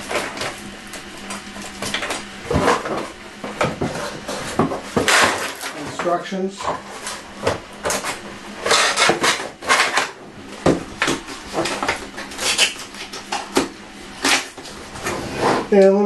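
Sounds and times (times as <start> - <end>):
cardboard and plastic packaging rustling: 0.0 - 15.7.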